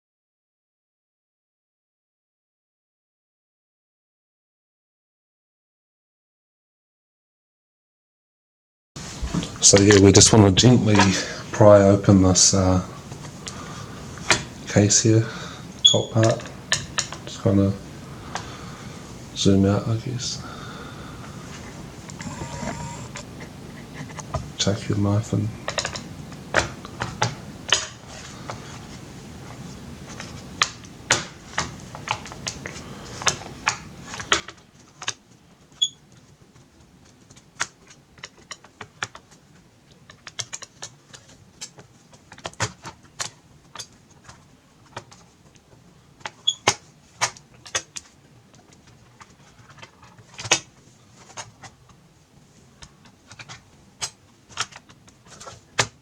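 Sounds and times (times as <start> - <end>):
steady background hiss: 9.0 - 56.0.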